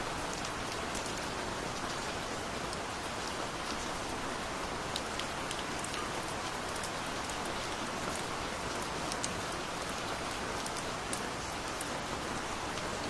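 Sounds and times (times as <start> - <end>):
gentle rain hiss: 0.0 - 13.0.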